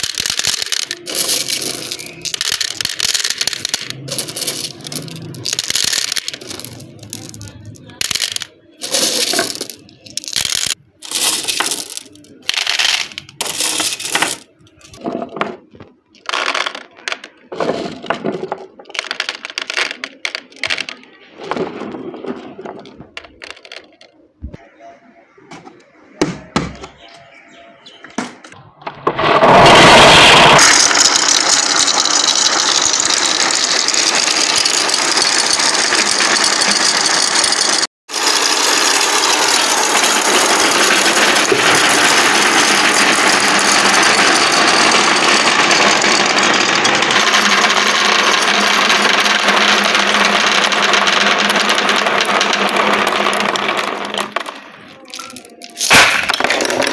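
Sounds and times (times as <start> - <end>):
marbles rattling through track: 0.0 - 24.6, 29.1 - 56.9.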